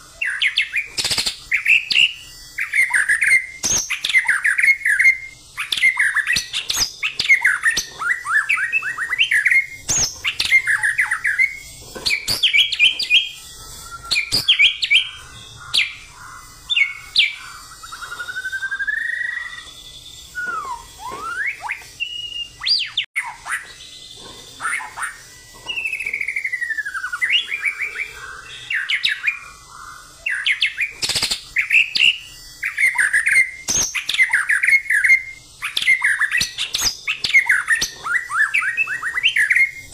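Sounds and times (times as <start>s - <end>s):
bird singing rapid varied phrases: 0.2s - 39.9s.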